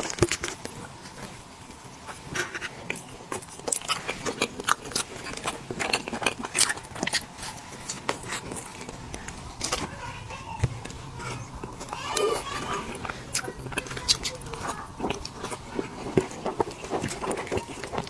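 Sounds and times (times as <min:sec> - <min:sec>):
wet mouth chewing clicks: 0:02.4 - 0:18.0.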